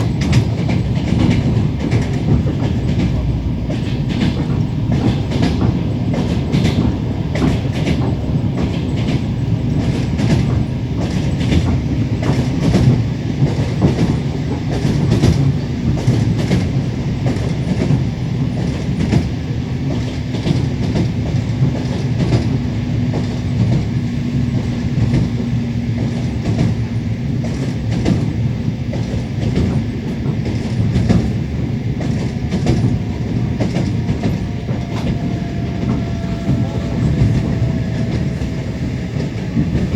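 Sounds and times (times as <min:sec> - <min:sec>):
train rumble: 0:00.0 - 0:39.9
train wheels clacking on rails: 0:00.0 - 0:39.9.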